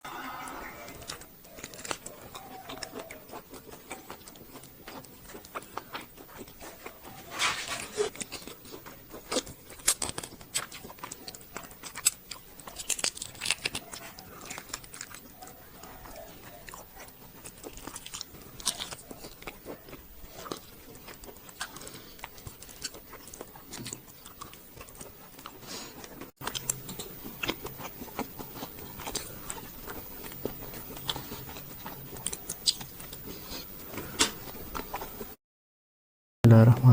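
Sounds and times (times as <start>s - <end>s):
biting and chewing: 0.1s - 35.4s.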